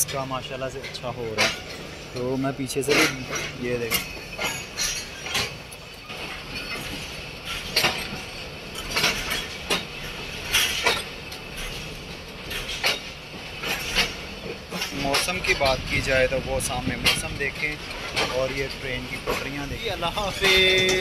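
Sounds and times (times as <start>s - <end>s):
train running noise: 0.0s - 21.0s
wheels clanking on track: 0.0s - 21.0s.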